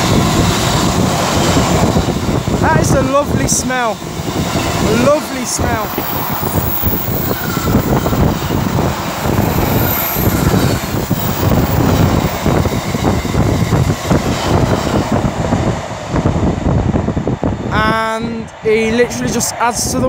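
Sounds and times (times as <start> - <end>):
freight train wheels rolling: 0.0 - 17.7.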